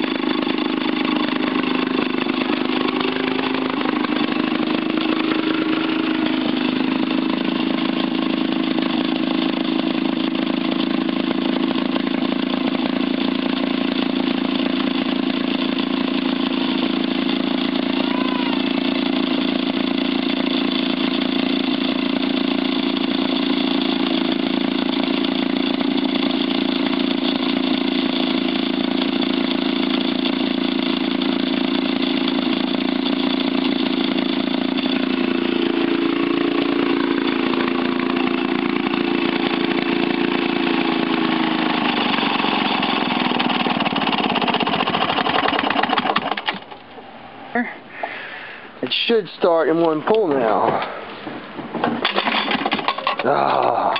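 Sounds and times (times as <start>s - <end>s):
two-stroke engine running: 0.0s - 53.9s.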